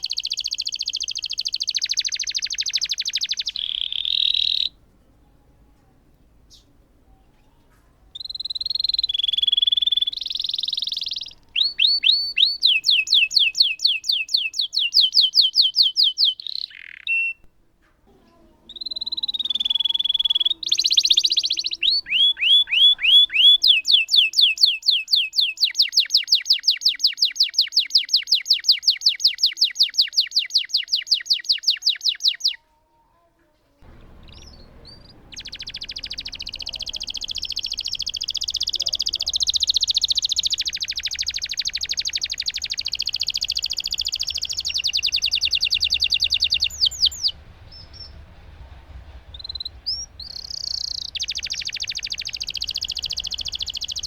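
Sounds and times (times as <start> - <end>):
canary singing trills: 0.0 - 5.4, 6.5 - 17.5, 18.6 - 32.6, 33.8 - 48.2, 49.4 - 54.0.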